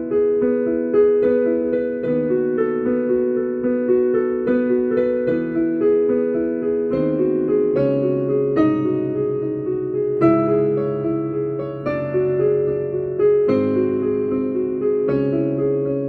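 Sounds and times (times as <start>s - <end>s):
piano piece: 0.0s - 16.0s.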